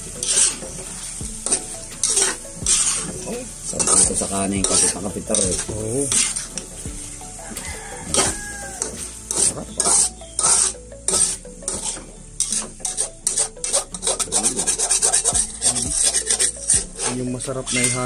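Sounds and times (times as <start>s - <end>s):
food sizzling in a pan: 0.0s - 18.0s
utensil scraping a pan: 0.0s - 18.0s.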